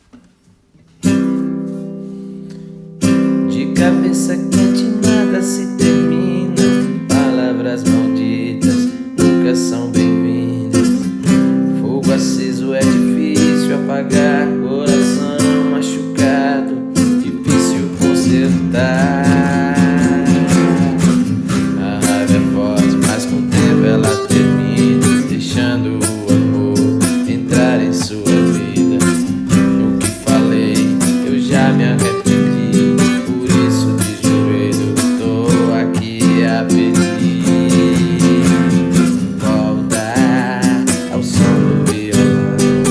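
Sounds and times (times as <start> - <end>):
acoustic guitar strumming chords: 0.8 - 42.9.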